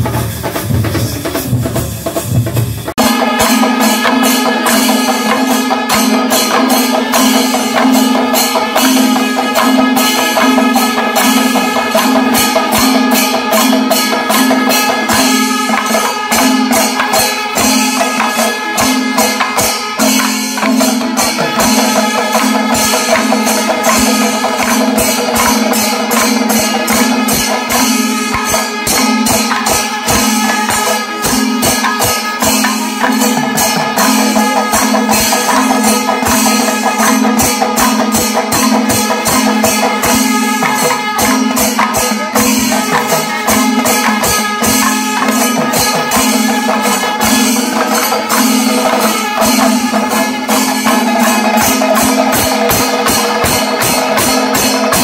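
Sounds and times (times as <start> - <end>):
drums beaten fast: 0.0 - 55.0
hand cymbals: 0.0 - 55.0.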